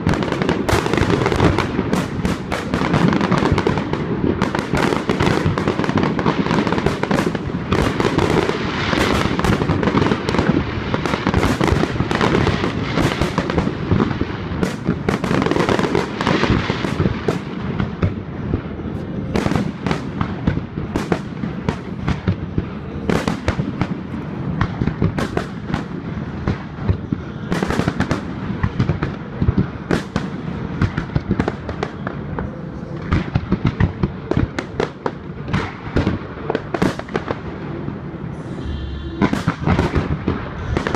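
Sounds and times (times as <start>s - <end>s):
fireworks cracking and banging: 0.0s - 40.9s.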